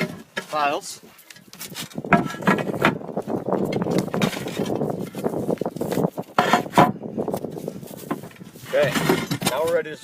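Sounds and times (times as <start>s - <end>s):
roof tiles clinking and scraping: 0.0s - 6.9s, 7.9s - 9.9s.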